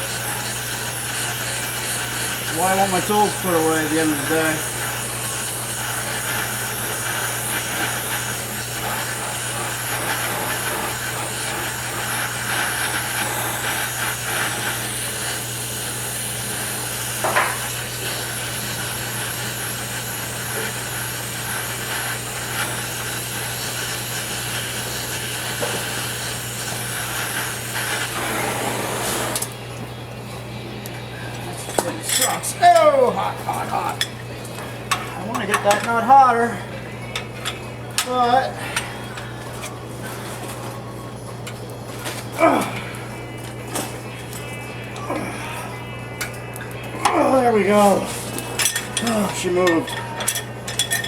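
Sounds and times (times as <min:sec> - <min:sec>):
gas torch flame hissing: 0:00.0 - 0:51.0.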